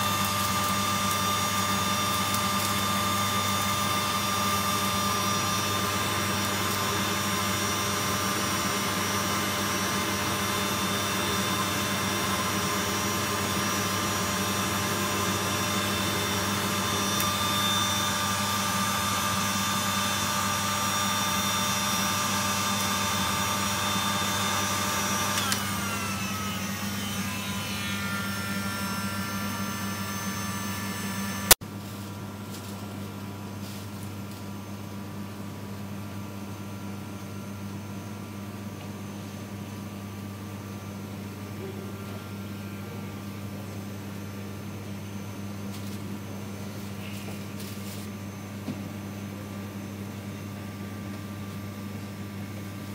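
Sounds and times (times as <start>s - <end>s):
electric blower running: 0.0s - 36.0s, 36.6s - 48.4s.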